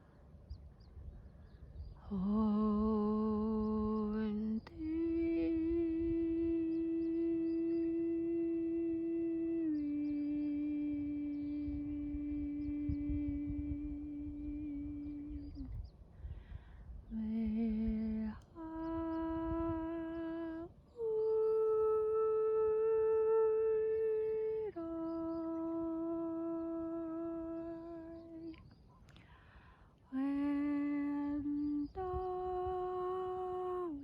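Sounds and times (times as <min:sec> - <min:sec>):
voice-like humming of held notes: 0:00.0 - 0:34.0.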